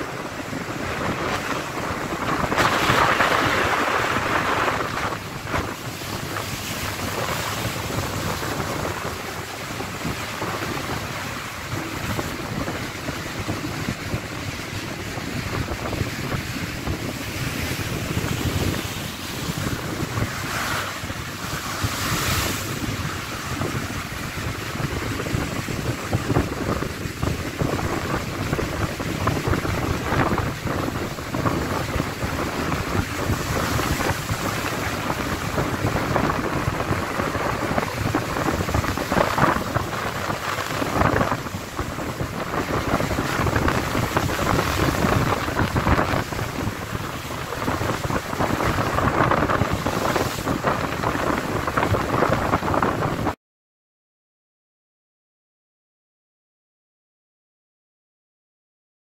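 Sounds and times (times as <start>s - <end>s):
waves breaking against rocks: 0.0s - 53.3s
wind buffeting microphone: 0.0s - 53.4s.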